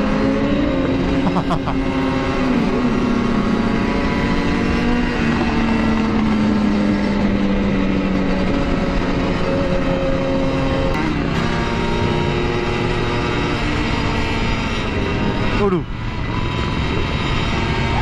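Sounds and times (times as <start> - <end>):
two-stroke motorcycle engine running: 0.0 - 18.0.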